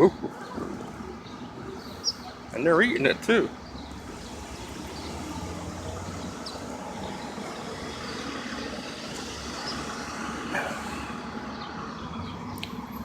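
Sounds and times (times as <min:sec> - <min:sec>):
city street traffic hum: 0:00.0 - 0:13.0.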